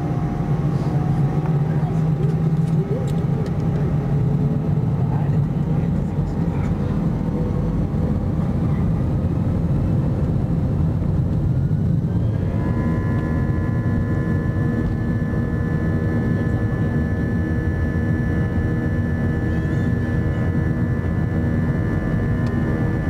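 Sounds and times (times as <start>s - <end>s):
jet engine rumble: 0.0s - 23.0s
jet engine whine: 0.0s - 23.0s.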